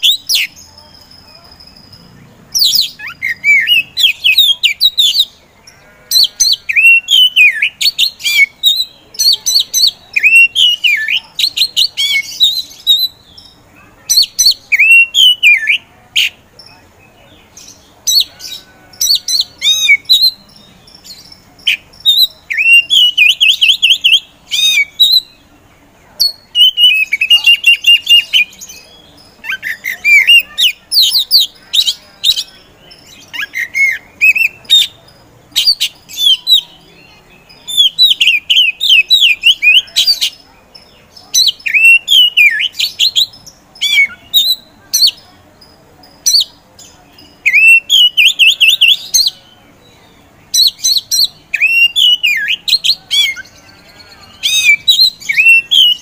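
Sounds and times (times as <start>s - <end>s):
bird singing chirps and whistles: 0.0s - 5.4s, 6.2s - 16.4s, 17.8s - 25.4s, 26.2s - 35.0s, 35.6s - 45.2s, 47.2s - 49.6s, 50.5s - 56.0s.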